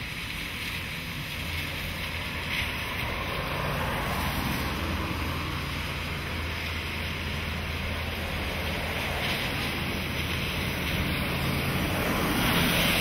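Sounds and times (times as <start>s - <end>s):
low hum of engines: 0.0s - 13.0s
tyres swishing through water: 0.0s - 13.0s.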